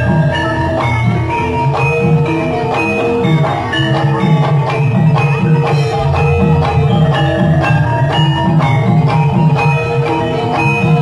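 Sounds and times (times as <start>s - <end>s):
metallophones and gongs ringing: 0.0s - 11.0s.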